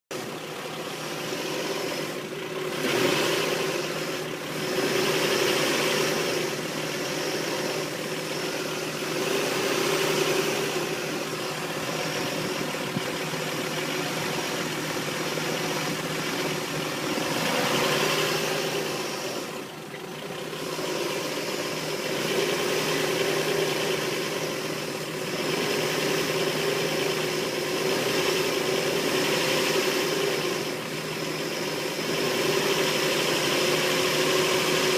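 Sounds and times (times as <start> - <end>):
car engine idling roughly: 0.1 - 34.9.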